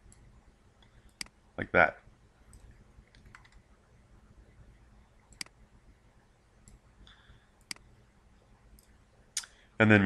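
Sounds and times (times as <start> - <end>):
quiet room hum: 0.0 - 10.0.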